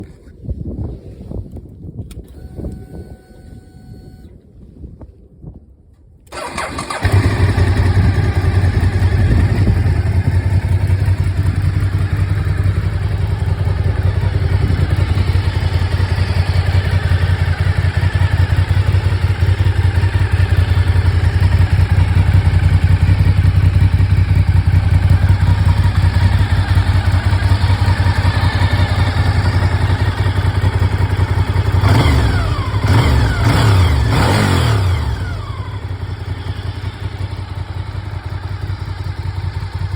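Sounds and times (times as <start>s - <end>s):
motorcycle engine idling: 6.3s - 39.9s
motorcycle engine revving: 6.3s - 39.9s.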